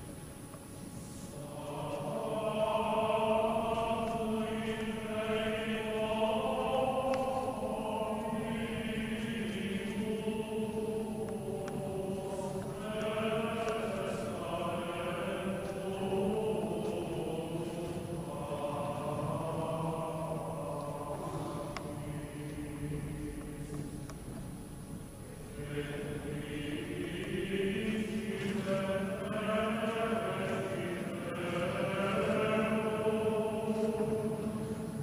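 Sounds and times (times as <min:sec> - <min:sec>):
voices singing a chant: 0:01.0 - 0:24.2, 0:25.2 - 0:35.0.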